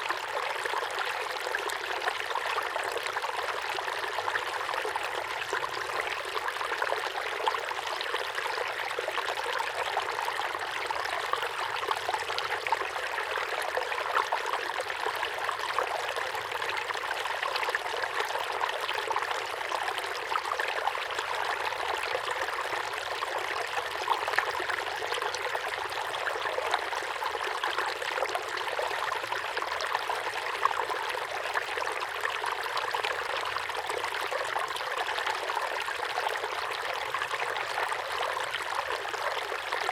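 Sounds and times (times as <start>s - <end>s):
small waterfall pouring into pond: 0.0s - 39.9s.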